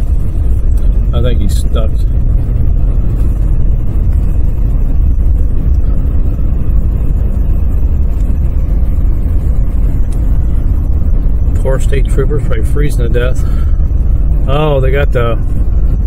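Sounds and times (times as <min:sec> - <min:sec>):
car tyre and engine noise: 0:00.0 - 0:16.0.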